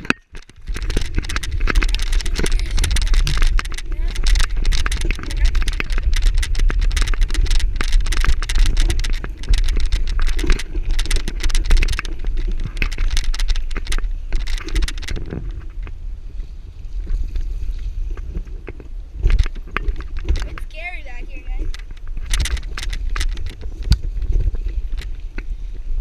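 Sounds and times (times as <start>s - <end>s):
bicycle rattles and clicks: 0.0s - 26.0s
wind rumbling on microphone: 0.0s - 26.0s.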